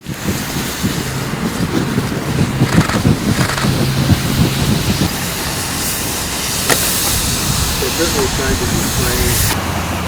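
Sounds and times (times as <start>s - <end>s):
engine running with flutter: 0.0s - 10.0s
wind-like rushing noise: 0.0s - 10.0s.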